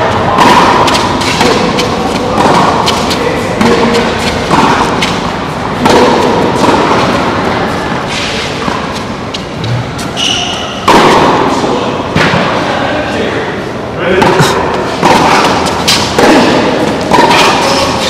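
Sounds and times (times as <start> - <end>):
tennis ball bouncing: 0.0 - 12.6, 14.1 - 18.0
tennis ball struck by rackets: 0.2 - 9.8, 10.4 - 12.6, 14.1 - 18.0.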